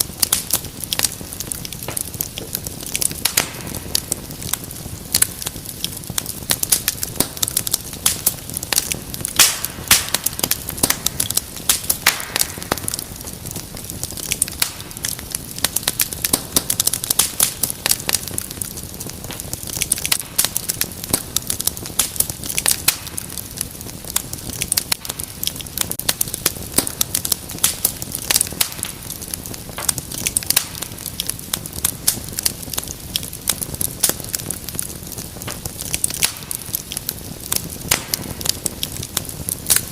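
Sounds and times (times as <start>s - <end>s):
burning logs hissing: 0.0s - 39.9s
wood fire crackling: 0.0s - 39.9s.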